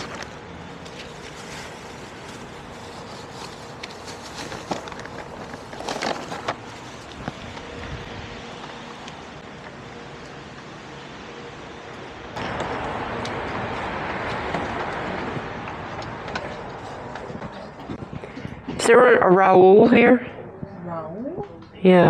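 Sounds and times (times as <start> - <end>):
hum of vehicles: 0.0 - 22.0.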